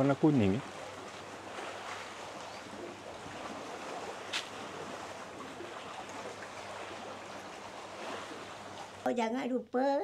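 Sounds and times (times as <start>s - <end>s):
rushing outdoor background noise: 0.0s - 9.1s.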